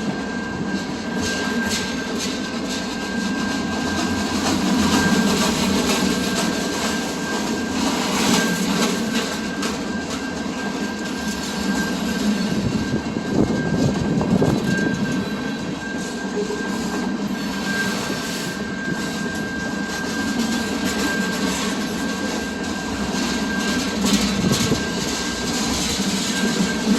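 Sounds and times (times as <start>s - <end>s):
high-pitched squeal: 0.0s - 26.9s
train rumbling on track: 0.0s - 26.9s.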